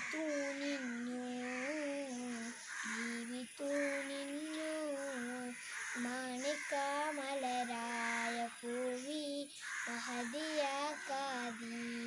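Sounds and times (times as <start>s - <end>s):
boy singing unaccompanied: 0.0s - 12.0s.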